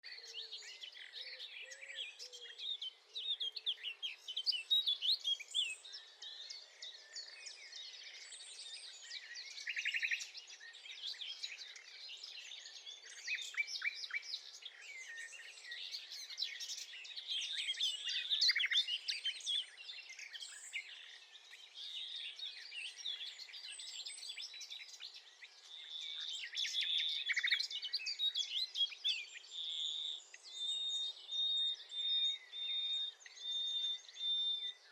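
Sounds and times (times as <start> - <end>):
nightingale singing: 0.0 - 34.9.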